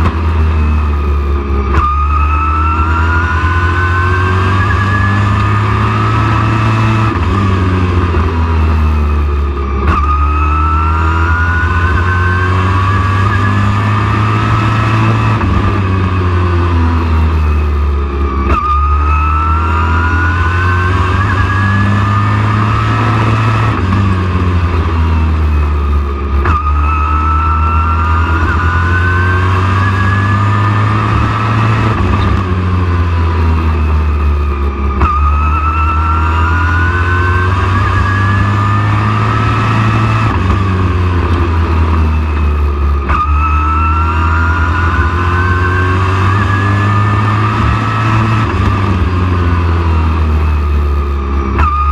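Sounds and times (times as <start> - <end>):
race truck engine accelerating: 0.0 - 51.9.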